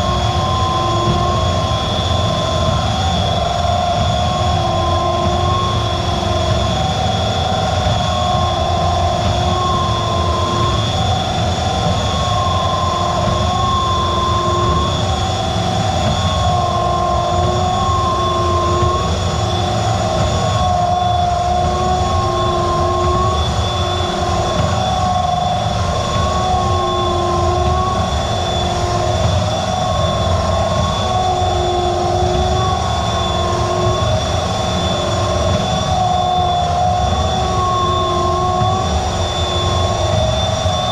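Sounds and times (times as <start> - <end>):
drain cleaning machine running: 0.0 - 40.9.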